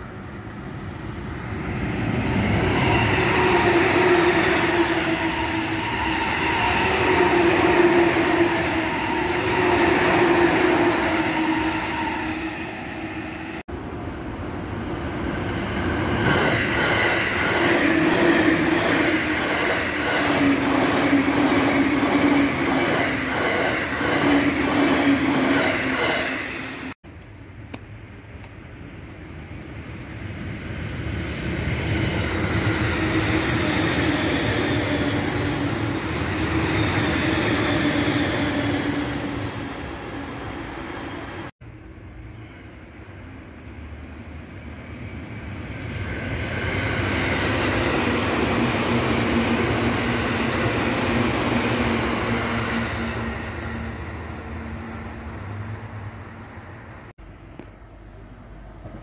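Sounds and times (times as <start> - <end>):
electric train passing at speed: 0.0 - 27.0, 27.9 - 59.0.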